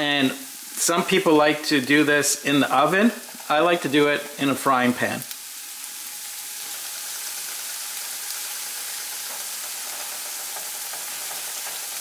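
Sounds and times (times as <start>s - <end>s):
potatoes sizzling in frying pan: 0.0s - 12.0s.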